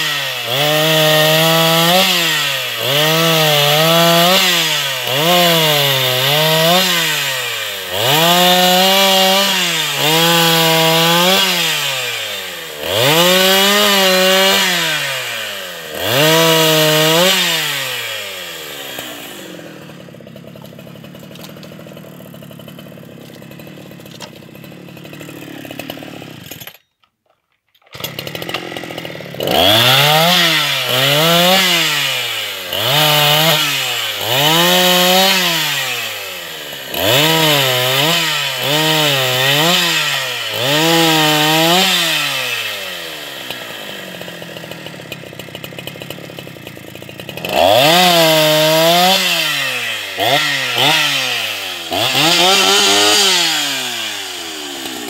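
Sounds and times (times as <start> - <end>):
chainsaw revving and idling: 0.0 - 26.8, 27.8 - 55.0.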